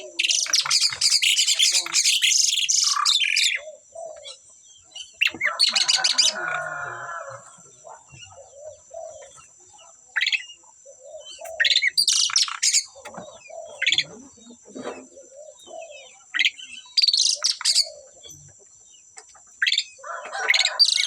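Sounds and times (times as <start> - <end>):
starlings calling and chattering: 0.0 - 21.0.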